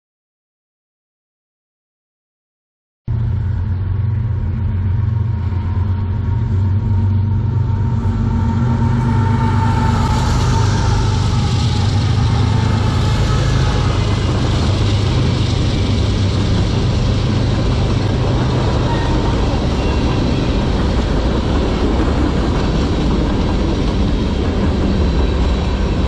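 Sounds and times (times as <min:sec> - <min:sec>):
diesel locomotive engine drone: 0:03.1 - 0:26.0
train wheels clattering on rails: 0:04.1 - 0:26.0.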